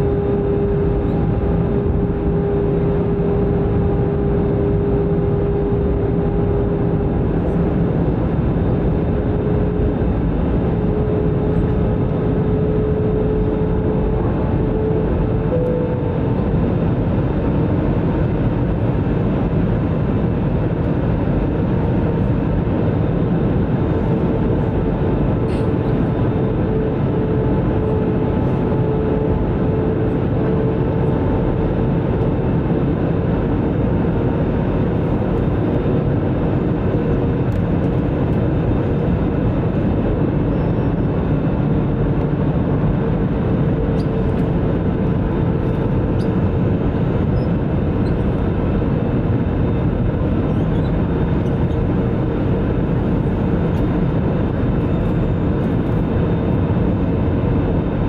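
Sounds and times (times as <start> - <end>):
jet engines and rushing air: 0.0 - 58.0.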